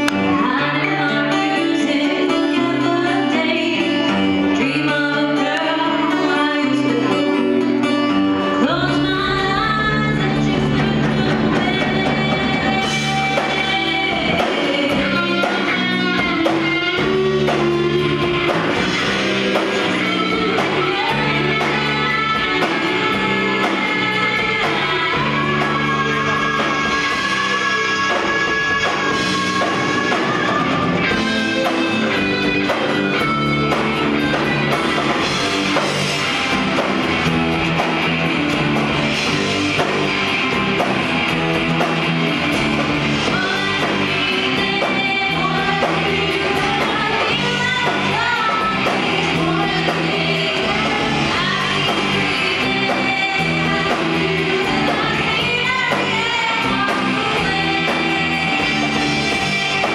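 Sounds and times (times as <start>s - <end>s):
bass guitar: 0.0s - 59.9s
drum kit: 0.0s - 59.9s
electric guitar: 0.0s - 59.9s
woman singing lead: 0.0s - 59.9s.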